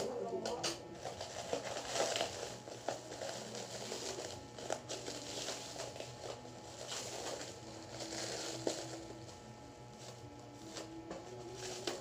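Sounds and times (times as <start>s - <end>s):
plastic wrap crinkling: 0.4s - 12.0s.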